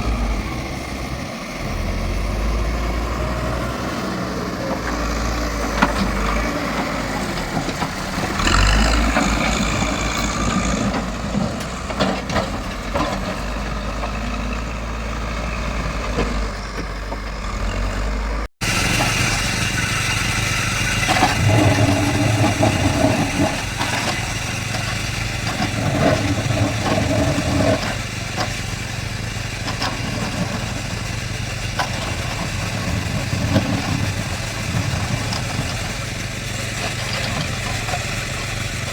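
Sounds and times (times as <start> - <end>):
diesel engine working: 0.0 - 38.9.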